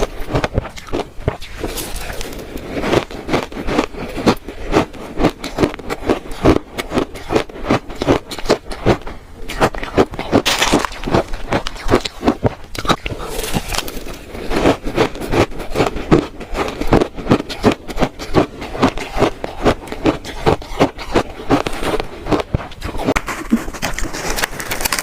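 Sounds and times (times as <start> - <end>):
ice crunching being chewed: 0.0 - 25.0.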